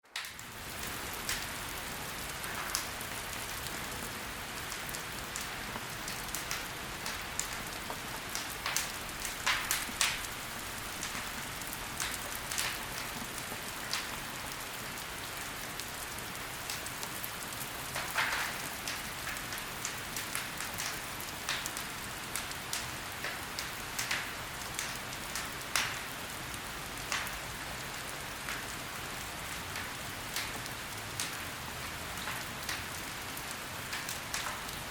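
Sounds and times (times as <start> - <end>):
logs burning in fireplace: 0.2 - 34.9.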